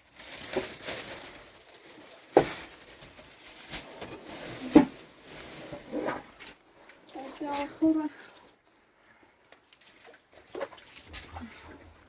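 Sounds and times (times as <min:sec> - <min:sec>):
rustling of things handled: 0:00.0 - 0:12.0.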